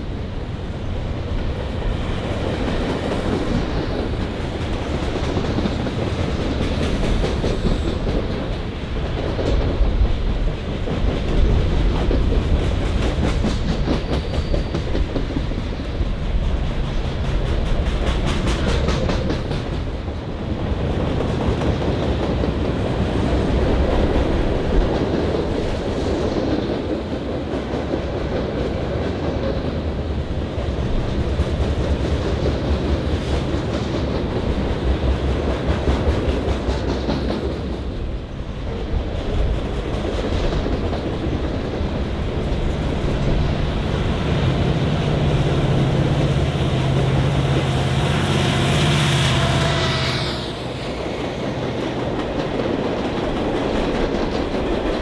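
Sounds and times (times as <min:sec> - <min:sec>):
train wheels clattering on rails: 0:00.0 - 0:49.0, 0:50.5 - 0:55.0.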